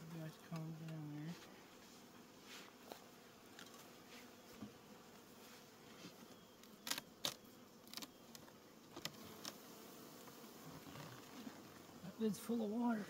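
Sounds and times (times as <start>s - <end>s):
bee flying past: 0.0s - 13.0s
honeybees buzzing: 0.0s - 13.0s.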